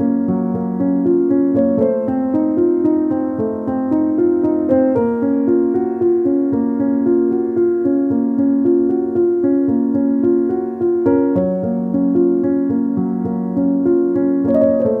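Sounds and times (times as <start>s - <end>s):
keyboard music: 0.0s - 15.0s.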